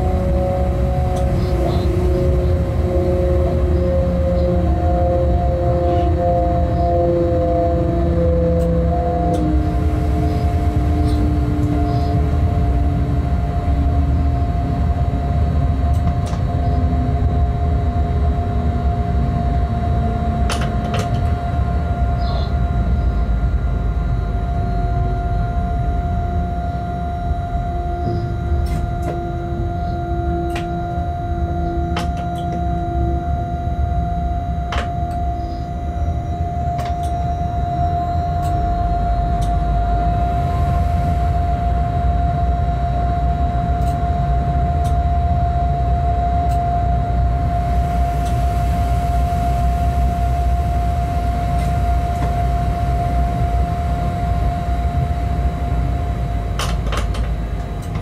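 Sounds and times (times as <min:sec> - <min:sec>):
constant whine: 0:00.0 - 0:58.0
train cab low rumble: 0:00.0 - 0:58.0.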